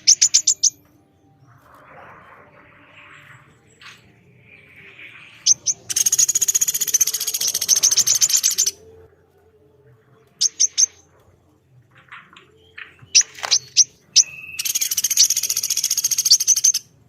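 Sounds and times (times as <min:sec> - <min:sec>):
bird calls and trill: 0:00.0 - 0:17.0.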